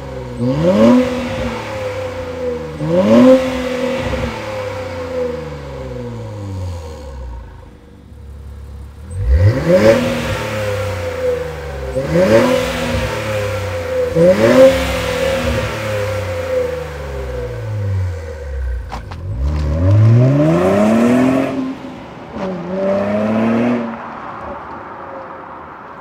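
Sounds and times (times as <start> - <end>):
car accelerating hard: 0.0 - 7.6, 9.1 - 24.8
car exhaust revving: 0.0 - 24.1.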